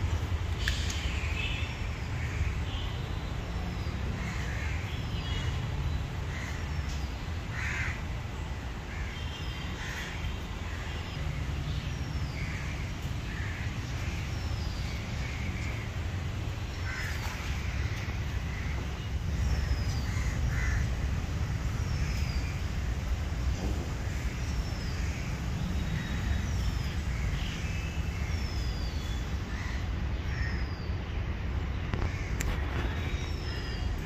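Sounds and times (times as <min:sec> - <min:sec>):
birds calling: 0:00.4 - 0:34.0.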